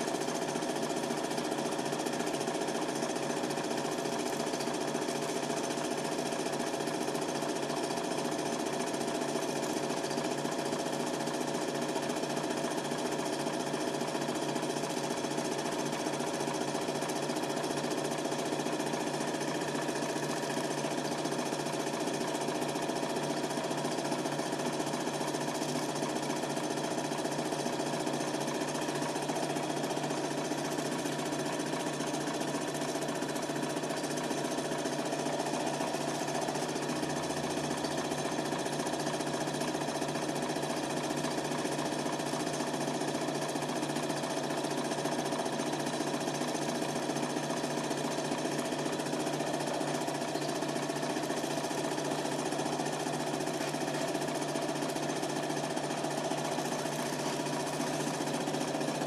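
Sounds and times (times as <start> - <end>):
film projector clattering: 0.0 - 59.0.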